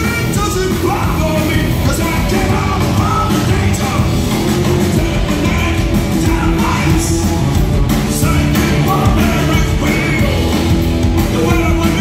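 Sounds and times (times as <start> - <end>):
hard rock band playing live: 0.0 - 12.0
man singing: 0.0 - 12.0.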